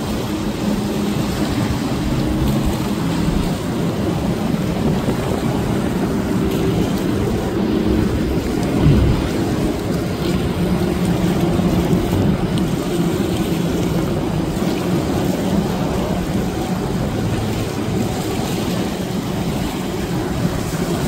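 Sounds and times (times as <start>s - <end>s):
outboard motor droning: 0.0s - 21.0s
water rushing: 0.0s - 21.0s
wind: 0.0s - 21.0s.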